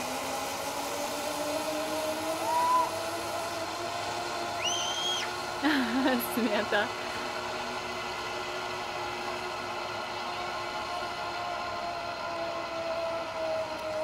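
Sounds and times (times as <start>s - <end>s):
zip-line pulleys whirring on cable: 0.0s - 14.0s.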